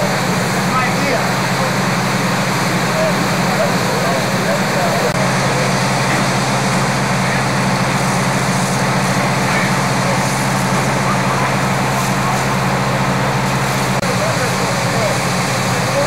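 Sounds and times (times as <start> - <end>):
fire engine motor droning: 0.0 - 16.0.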